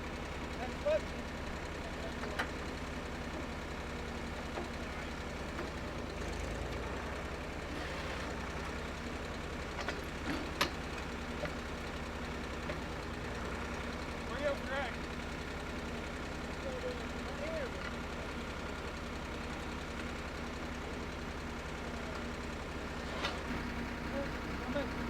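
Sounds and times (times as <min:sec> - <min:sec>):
drill rig engine running: 0:00.0 - 0:21.0, 0:21.8 - 0:25.0.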